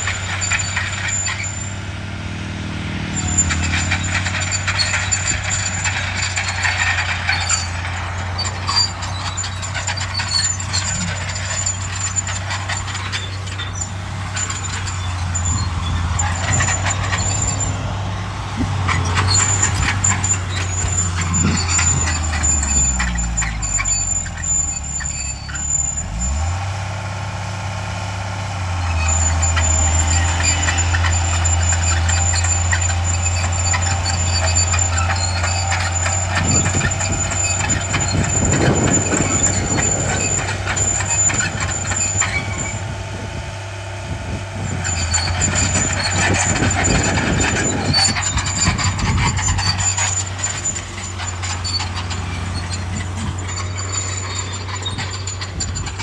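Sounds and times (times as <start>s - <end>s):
metal clanks and rattles: 0.0s - 1.8s, 3.0s - 26.4s, 28.8s - 43.2s, 44.6s - 56.0s
heavy machinery diesel engines: 0.0s - 56.0s.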